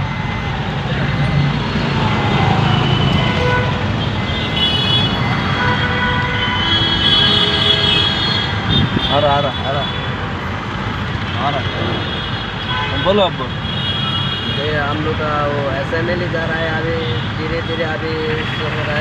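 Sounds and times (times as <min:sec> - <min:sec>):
traffic jam rumble: 0:00.0 - 0:19.0.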